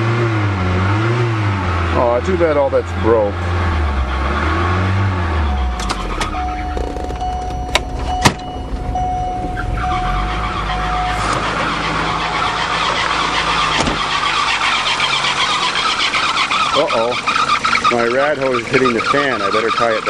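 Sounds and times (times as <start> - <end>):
car engine idling: 1.4 - 20.0
warning tone: 2.7 - 19.6.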